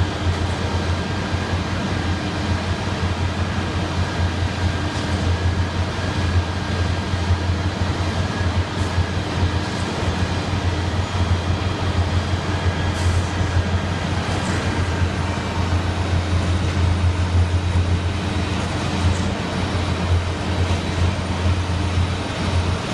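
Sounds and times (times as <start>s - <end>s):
low diesel rumble of trucks: 0.0s - 22.9s.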